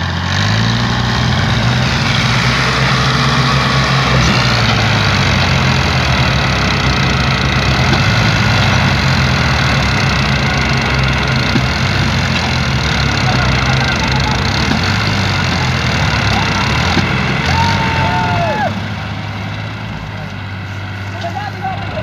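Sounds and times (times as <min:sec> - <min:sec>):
tractor diesel engine straining: 0:00.0 - 0:22.0.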